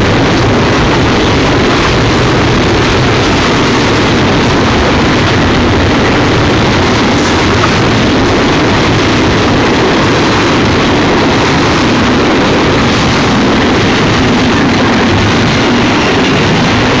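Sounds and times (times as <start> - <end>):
steel train wheels on rails: 0.0 - 17.0.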